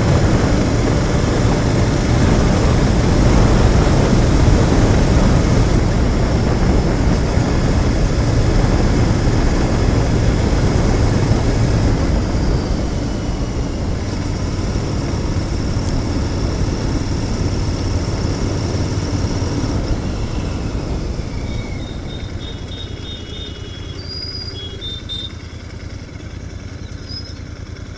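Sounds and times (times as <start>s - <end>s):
rushing wind noise: 0.0s - 25.4s
motorcycle engine running: 0.0s - 27.9s.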